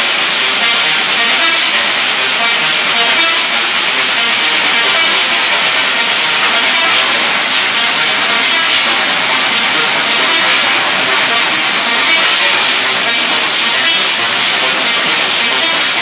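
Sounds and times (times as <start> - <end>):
tesla coil buzzing musical tone: 0.0 - 16.0.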